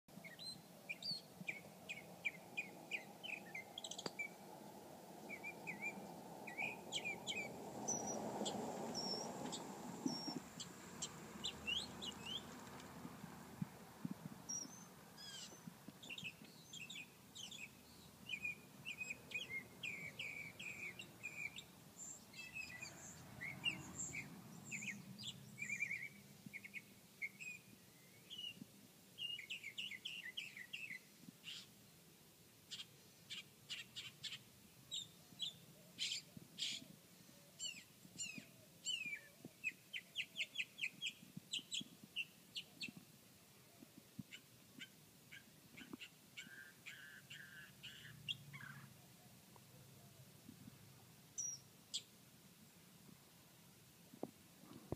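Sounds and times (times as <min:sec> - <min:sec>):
songbird singing: 0:00.1 - 0:52.2.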